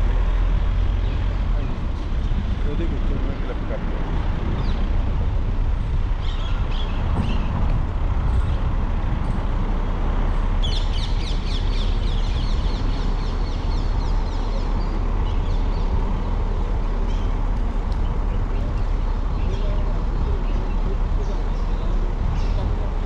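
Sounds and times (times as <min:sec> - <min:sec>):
moving vehicle rumble: 0:00.0 - 0:23.0
wind: 0:00.0 - 0:23.0
birds calling: 0:00.2 - 0:23.0.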